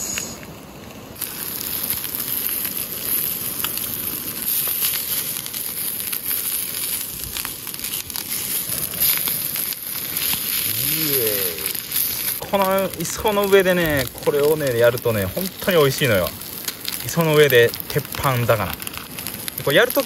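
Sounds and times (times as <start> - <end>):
fish sizzling on hot griddle: 0.1 - 20.0.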